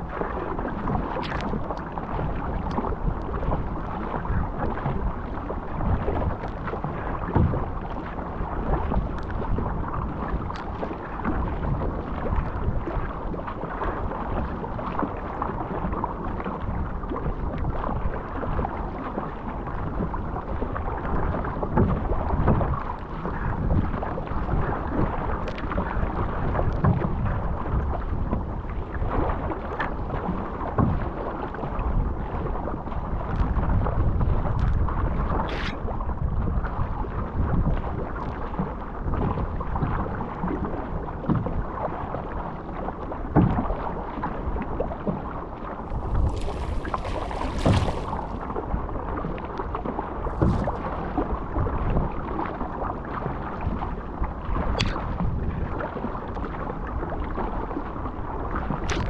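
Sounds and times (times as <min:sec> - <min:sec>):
paddle and wave splashes: 0:00.0 - 0:59.0
water rushing along hull: 0:00.0 - 0:59.0.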